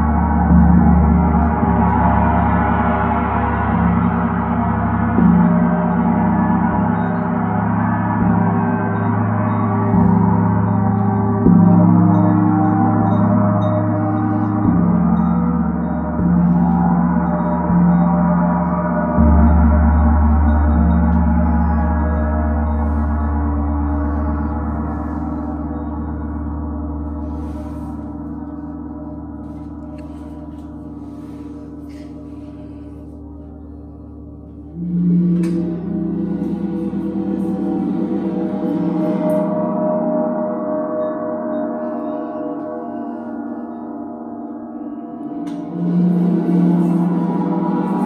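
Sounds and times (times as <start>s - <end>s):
deep gong hum: 0.0s - 48.0s.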